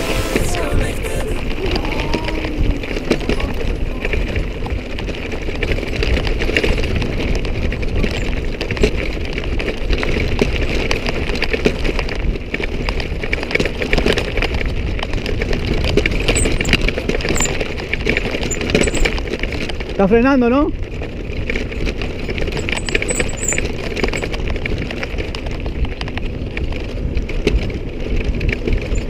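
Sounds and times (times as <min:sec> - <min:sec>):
wind buffeting the microphone: 0:00.6 - 0:29.0
bike rattling over stones: 0:01.4 - 0:29.0.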